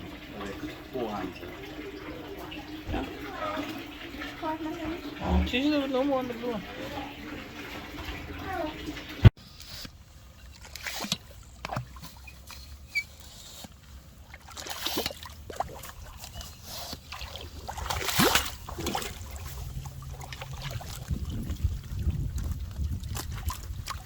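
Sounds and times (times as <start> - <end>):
water sloshing and splashing: 0.0 - 24.0.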